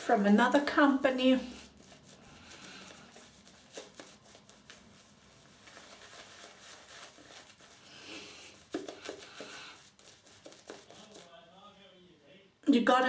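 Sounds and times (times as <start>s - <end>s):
soft rubbing of soap: 0.0s - 12.0s.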